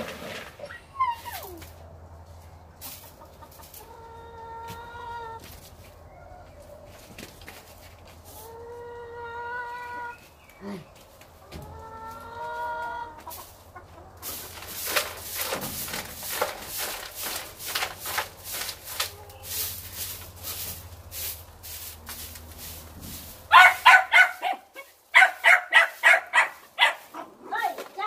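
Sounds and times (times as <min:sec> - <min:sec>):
broom sweeping dirt: 0:00.0 - 0:09.1, 0:10.1 - 0:28.0
hens clucking: 0:00.6 - 0:28.0.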